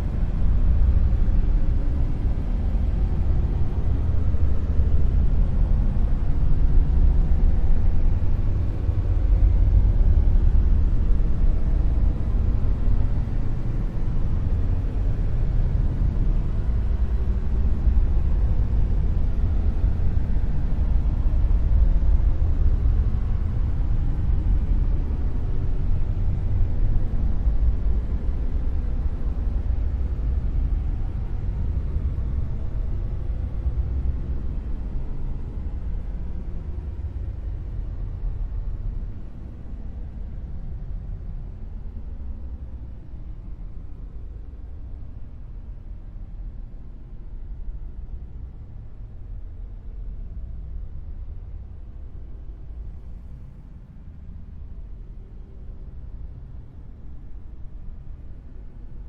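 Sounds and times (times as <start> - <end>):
deep steady dark noise: 0.0 - 59.0.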